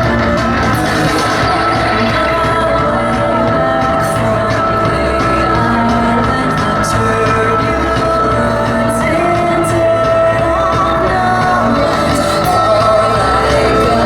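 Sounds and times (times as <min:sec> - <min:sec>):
person singing: 0:00.0 - 0:14.0
rock band playing live: 0:00.0 - 0:14.0.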